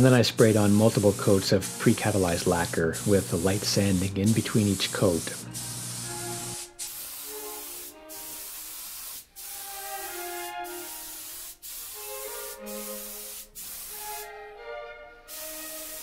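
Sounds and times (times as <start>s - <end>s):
spray gun hissing: 0.0s - 14.3s, 15.2s - 16.0s
quiet background music: 0.0s - 16.0s.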